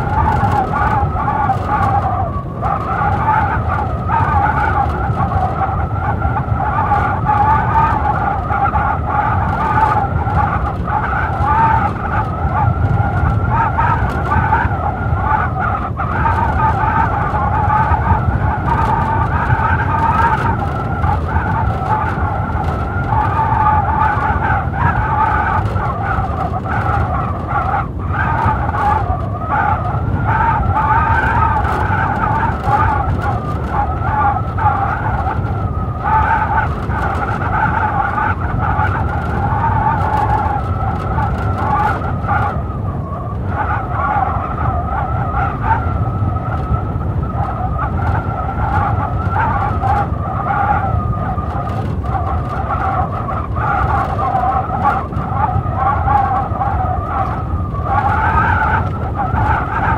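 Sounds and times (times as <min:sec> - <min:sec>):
blizzard wind howling: 0:00.0 - 0:59.9.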